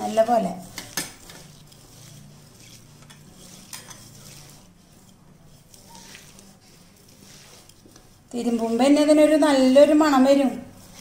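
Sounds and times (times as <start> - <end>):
hand rustling onion in bowl: 0.6 - 9.5.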